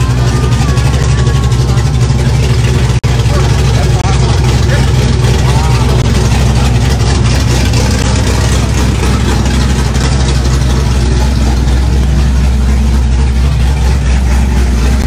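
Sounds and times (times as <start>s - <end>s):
crowd noise: 0.0s - 15.0s
vehicle engines idling: 0.0s - 15.0s.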